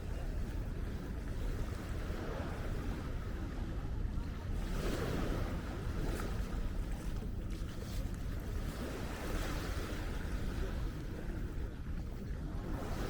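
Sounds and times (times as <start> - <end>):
small waves washing: 0.0 - 13.0
wind rumbling on microphone: 0.0 - 13.0.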